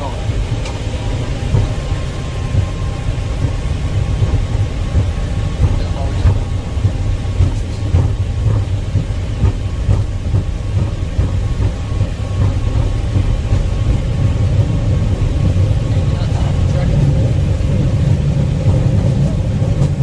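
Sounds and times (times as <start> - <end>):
jet engine and runway rumble: 0.0 - 20.0.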